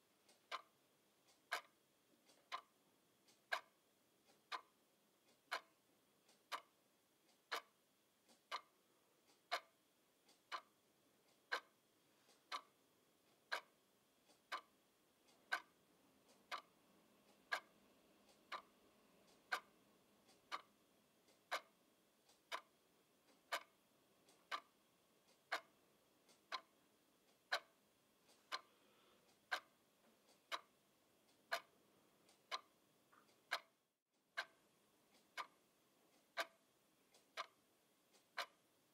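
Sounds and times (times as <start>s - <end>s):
alarm clock ticking: 0.0s - 38.9s.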